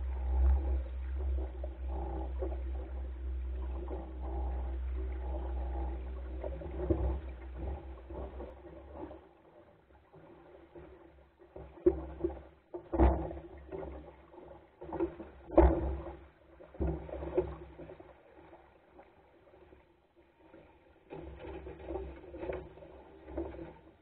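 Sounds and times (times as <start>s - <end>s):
water slapping against wooden hull: 0.0s - 24.0s.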